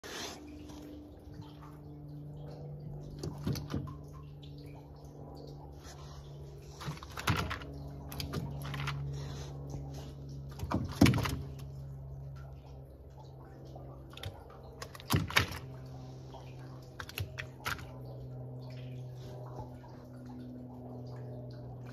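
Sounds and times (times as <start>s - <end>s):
electric trolling motor humming: 0.0s - 21.9s.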